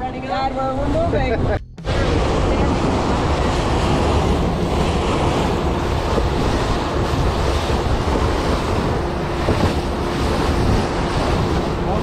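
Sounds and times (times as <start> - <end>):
boat engine running: 0.0 - 12.0
water rushing along boat hull: 0.0 - 12.0
wind buffeting microphone: 0.0 - 12.0.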